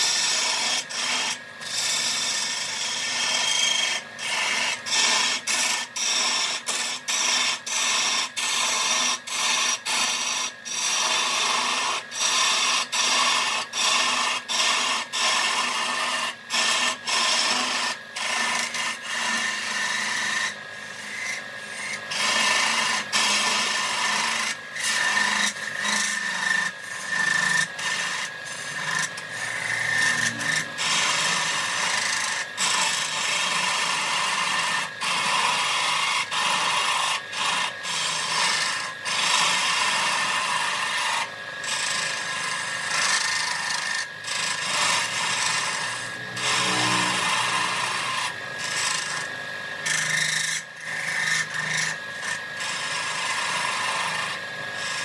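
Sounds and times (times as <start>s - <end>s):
tool scraping wood on a lathe: 0.0s - 55.0s.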